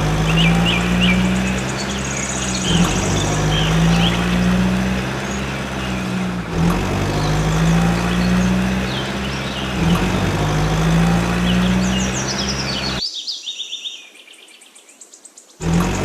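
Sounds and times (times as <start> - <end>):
diesel engine running: 0.0 - 13.0, 15.6 - 16.0
birds chirping: 0.0 - 16.0.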